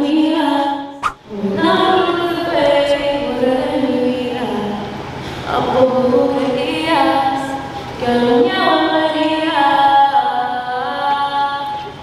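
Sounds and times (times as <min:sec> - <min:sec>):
woman singing into a microphone: 0:00.0 - 0:12.0.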